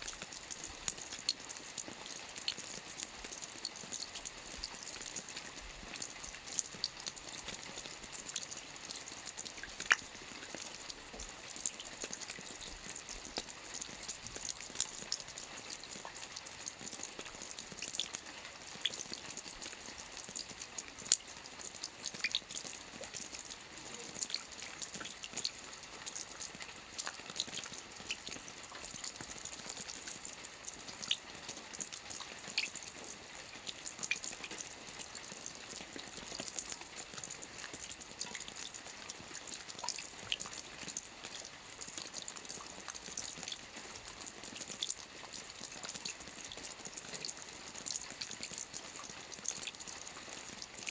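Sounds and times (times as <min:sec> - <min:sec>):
rain drops ticking on hard surface: 0:00.0 - 0:50.9.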